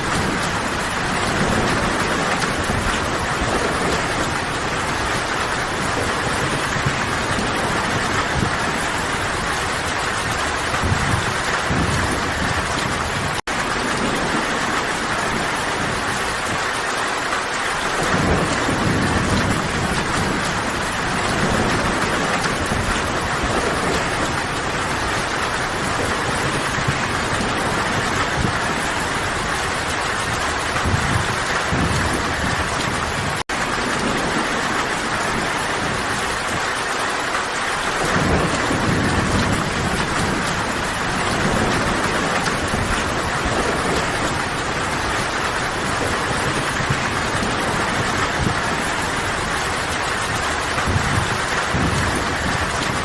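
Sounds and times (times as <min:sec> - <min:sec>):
distant thunder rumbles: 0:00.0 - 0:53.0
heavy rain on foliage: 0:00.0 - 0:53.0.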